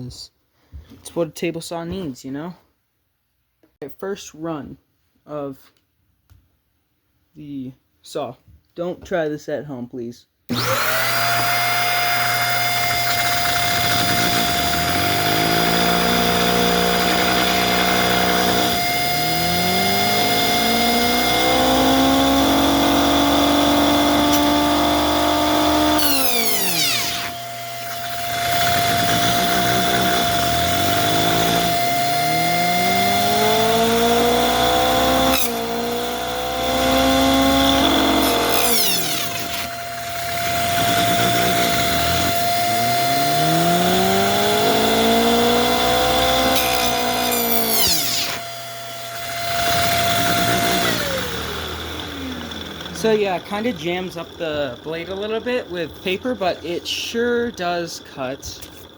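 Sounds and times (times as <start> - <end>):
toy table saw whining: 10.5 - 58.9.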